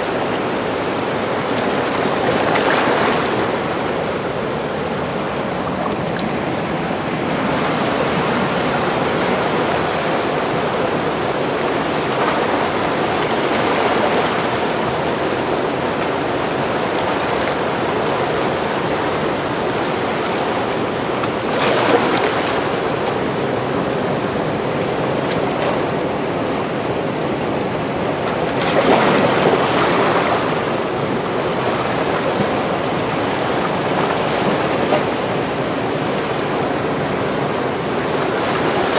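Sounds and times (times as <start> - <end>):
whitewater rushing over rocks: 0.0 - 38.9.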